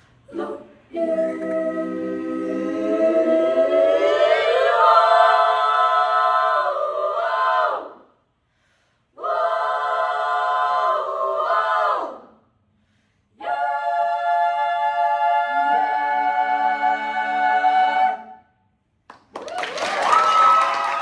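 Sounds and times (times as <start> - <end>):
a cappella choir singing: 0.0 - 8.4, 9.0 - 18.8.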